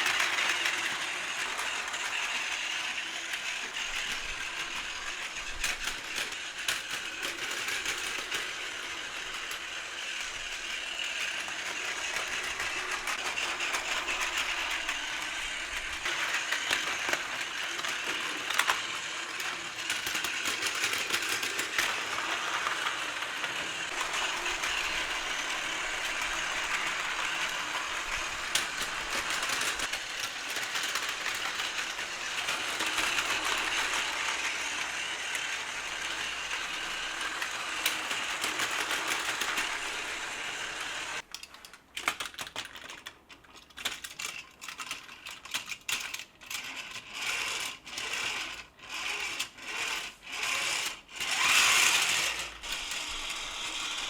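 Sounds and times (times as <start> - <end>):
toy train motor whirring: 0.0 - 54.0.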